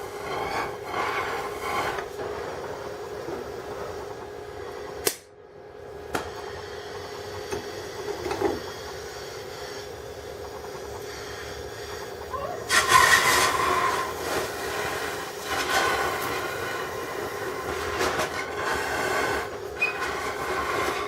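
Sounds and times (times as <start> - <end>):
welding station hum: 0.0 - 21.0.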